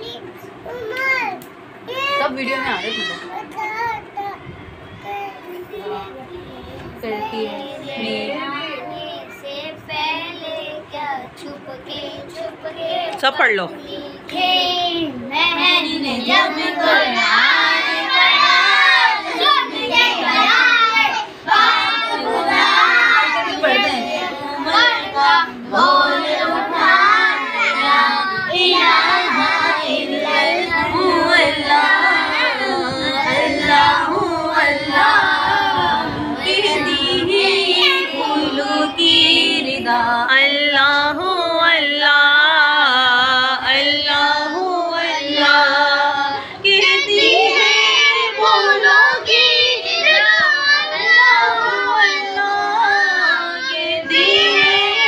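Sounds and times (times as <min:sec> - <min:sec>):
boys singing together: 0:04.8 - 0:13.2, 0:13.8 - 0:55.0.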